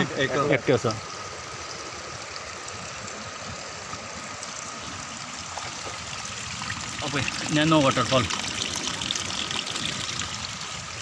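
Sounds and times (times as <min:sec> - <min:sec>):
water running over rocks: 0:00.0 - 0:11.0.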